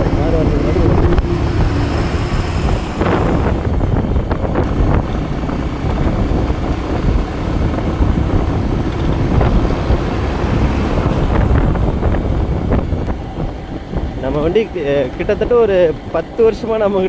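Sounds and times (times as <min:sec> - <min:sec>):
motorcycle engine: 0:00.0 - 0:15.2
wind buffeting microphone: 0:00.0 - 0:17.0.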